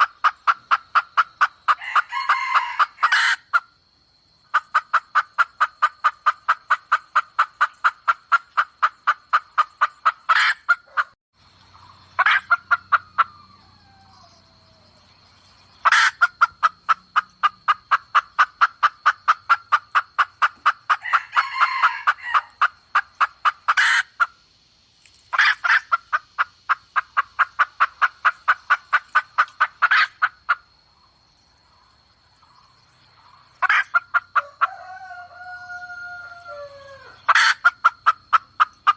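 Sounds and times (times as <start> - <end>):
hen clucking rapidly: 0.0 - 3.8, 4.4 - 14.2, 15.7 - 24.4, 25.3 - 35.2, 36.6 - 38.9.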